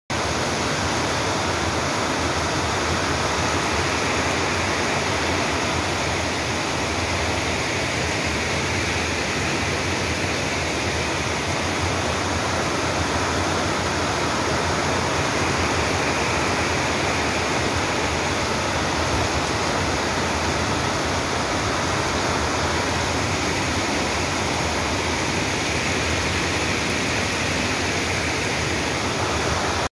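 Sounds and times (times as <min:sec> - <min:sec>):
heavy rain pouring: 0:00.2 - 0:29.9.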